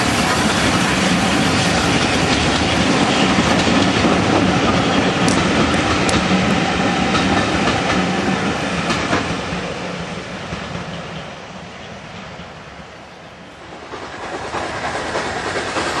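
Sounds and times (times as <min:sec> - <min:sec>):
train wheels clicking over rail joints: 0:00.0 - 0:16.0.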